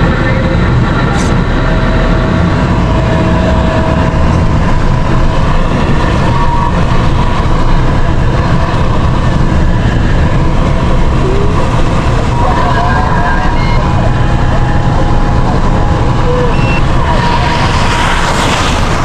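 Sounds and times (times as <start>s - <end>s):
road noise: 0.0s - 19.0s
vehicle engine: 0.0s - 19.0s.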